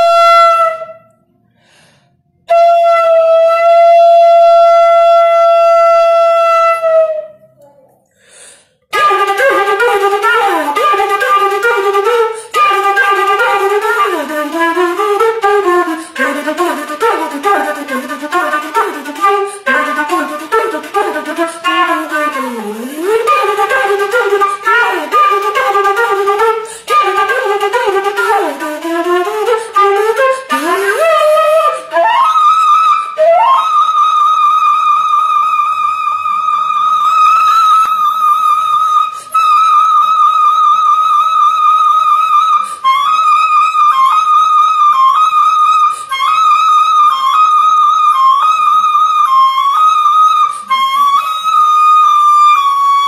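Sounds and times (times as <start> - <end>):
solo flute playing: 0.0 - 7.7, 8.9 - 53.0.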